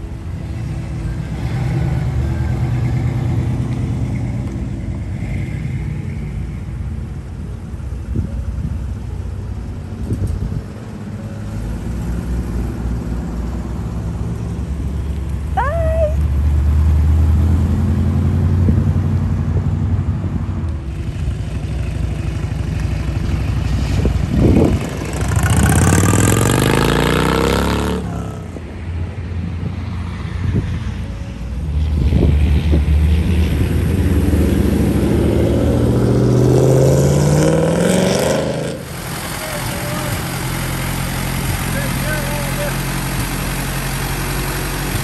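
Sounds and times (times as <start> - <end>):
car engines rumbling and revving: 0.0 - 45.0.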